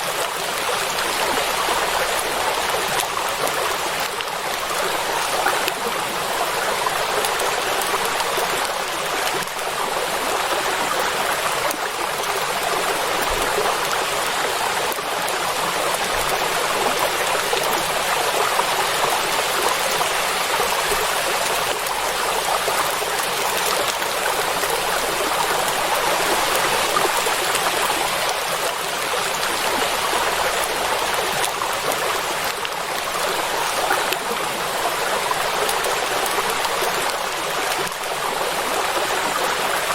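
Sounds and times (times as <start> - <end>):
heavy rain on a lake: 0.0 - 39.9.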